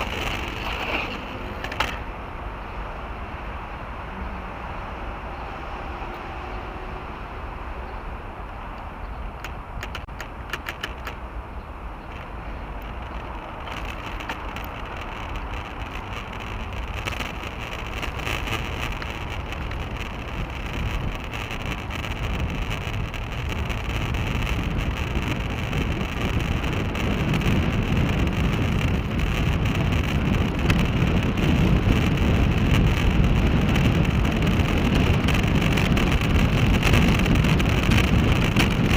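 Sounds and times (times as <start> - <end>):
tyre and road noise: 0.0 - 38.9
wind buffeting microphone: 0.0 - 38.9.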